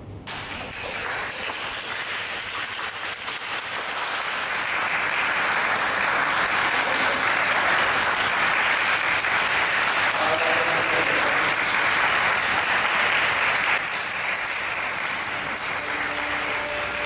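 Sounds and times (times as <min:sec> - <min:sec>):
audience applauding: 0:00.3 - 0:17.0.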